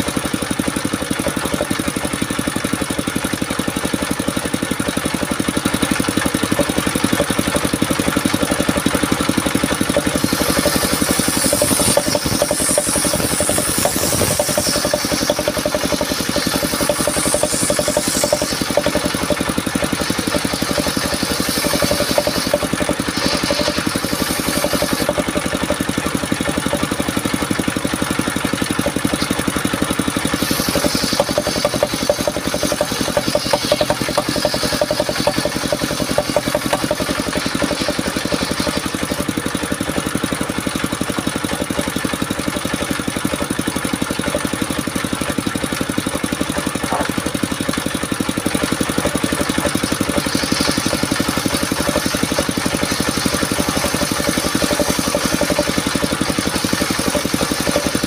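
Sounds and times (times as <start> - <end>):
sawmill engine running: 0.0 - 58.0
saw blade hissing through wood: 5.8 - 43.2, 43.8 - 58.0.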